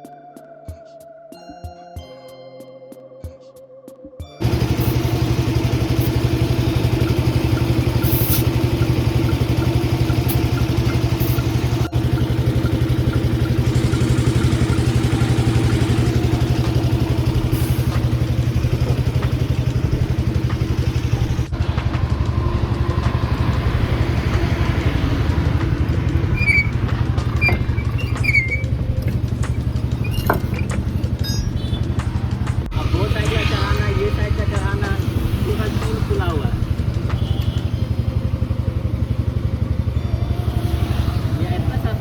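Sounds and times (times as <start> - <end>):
engine idling: 4.4 - 42.0.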